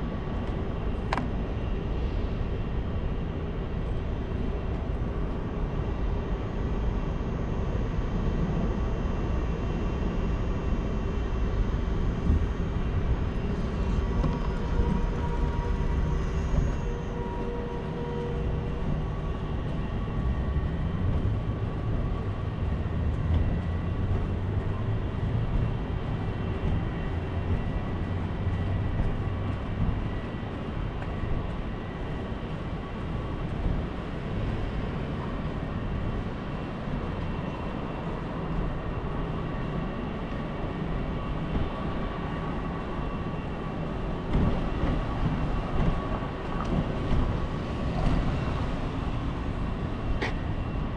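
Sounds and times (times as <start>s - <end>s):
wind and road rumble: 0.0s - 50.9s.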